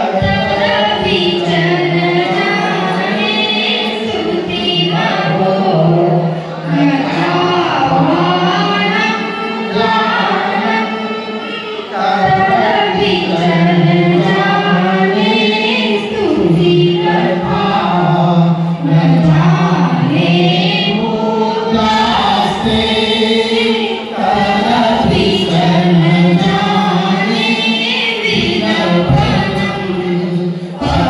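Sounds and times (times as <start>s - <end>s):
person chanting over loudspeaker: 0.0s - 31.0s.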